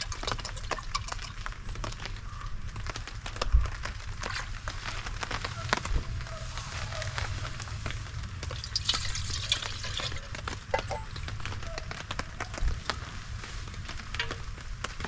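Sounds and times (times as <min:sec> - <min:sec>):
rain pattering on a tarp: 0:00.0 - 0:15.0.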